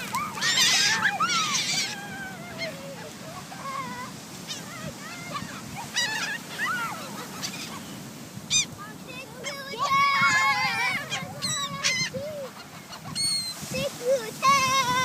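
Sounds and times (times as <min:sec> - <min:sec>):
seagulls calling: 0:00.0 - 0:15.0.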